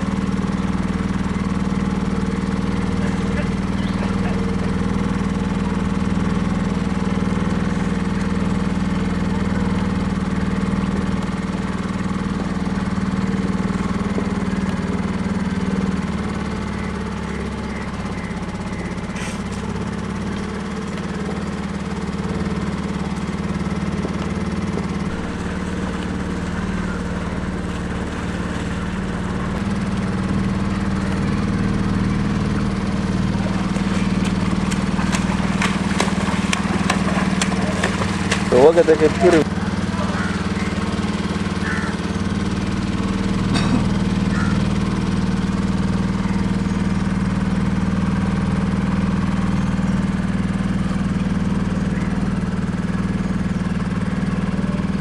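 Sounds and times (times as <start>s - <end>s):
water splashing: 0.0s - 47.2s
boat engine humming: 0.0s - 55.0s.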